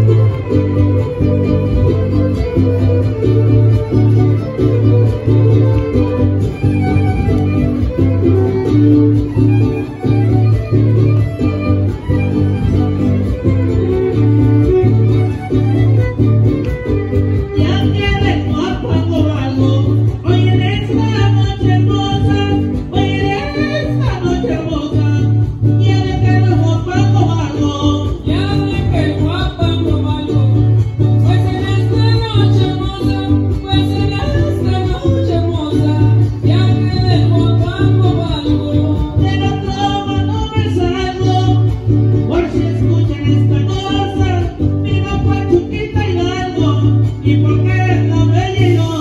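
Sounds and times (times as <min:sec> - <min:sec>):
deep bass line: 0:00.0 - 0:49.0
person singing: 0:00.0 - 0:49.0
strummed guitars: 0:00.0 - 0:49.0
violin: 0:00.0 - 0:49.0.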